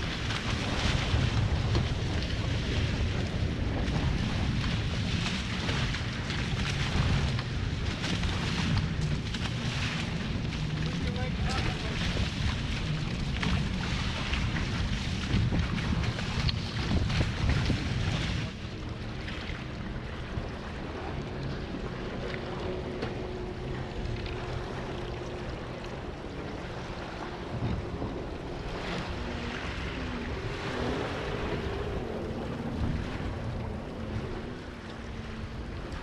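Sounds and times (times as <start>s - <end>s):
water rushing past boat hulls: 0.0s - 36.0s
wind buffeting microphone: 0.0s - 36.0s.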